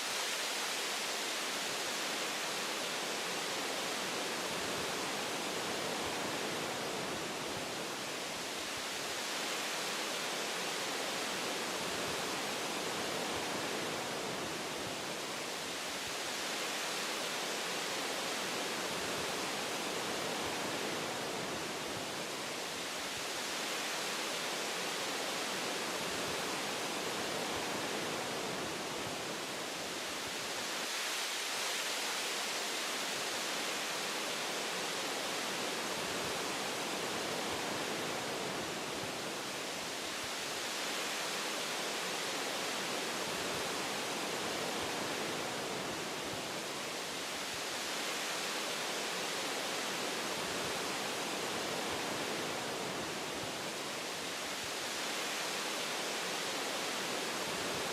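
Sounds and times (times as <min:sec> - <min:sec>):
wind through tree branches: 0:00.0 - 0:57.9.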